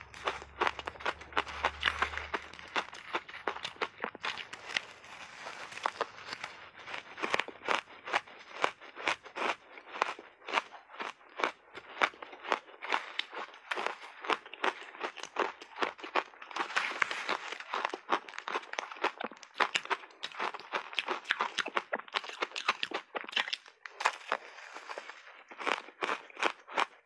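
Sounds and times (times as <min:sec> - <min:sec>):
crunching shaved ice: 0:00.0 - 0:27.0.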